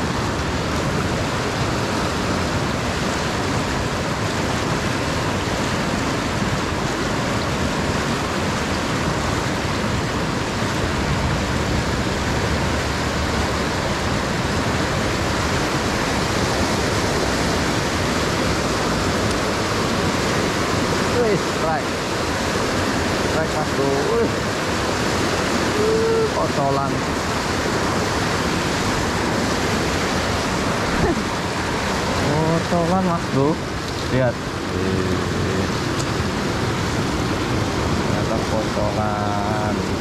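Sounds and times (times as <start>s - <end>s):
river rapids rushing over boulders: 0.0s - 40.0s.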